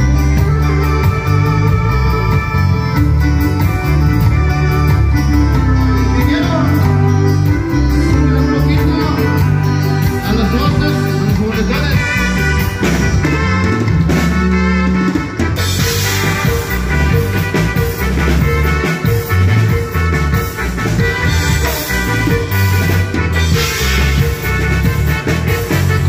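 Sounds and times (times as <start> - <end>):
drums steady beat: 0.0 - 26.0
latin band playing: 0.0 - 26.0.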